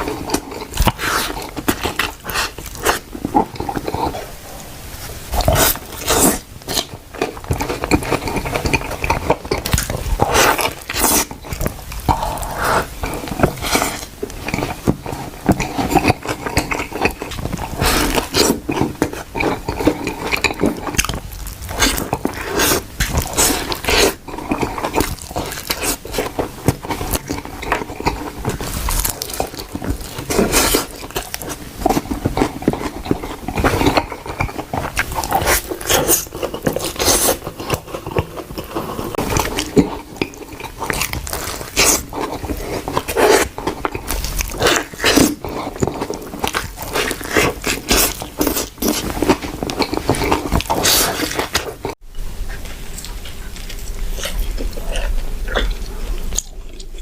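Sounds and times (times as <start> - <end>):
wet chewing and smacking: 0.0 - 4.3, 5.3 - 57.0
food crunching: 0.0 - 57.0.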